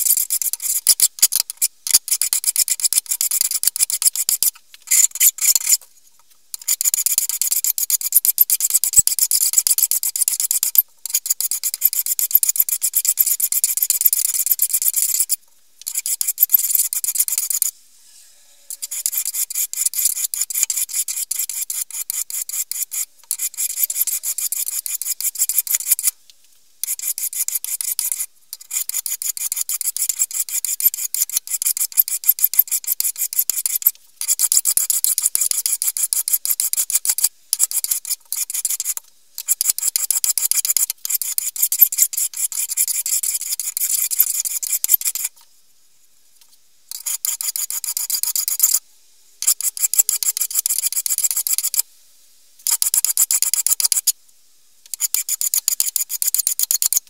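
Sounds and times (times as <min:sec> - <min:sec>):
file rasping on steel: 0:00.0 - 0:05.8, 0:06.6 - 0:26.2, 0:26.8 - 0:45.3, 0:46.9 - 0:48.8, 0:49.4 - 0:51.8, 0:52.7 - 0:54.1, 0:54.9 - 0:57.0.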